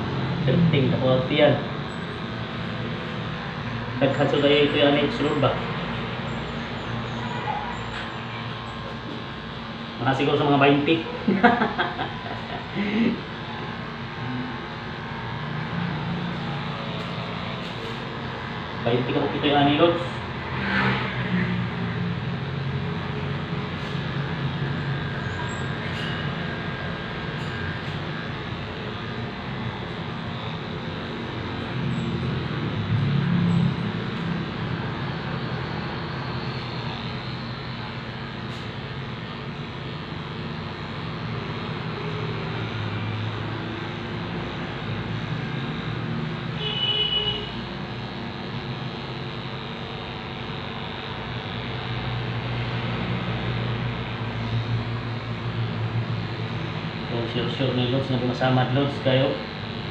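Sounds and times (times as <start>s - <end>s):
electric clippers humming: 0.0s - 59.9s.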